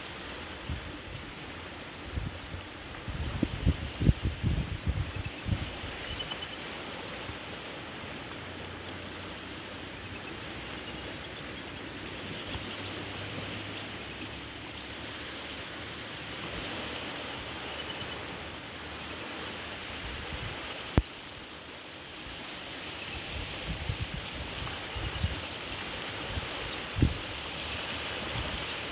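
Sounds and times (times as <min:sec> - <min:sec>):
lake water washing against shore: 0:00.0 - 0:28.9.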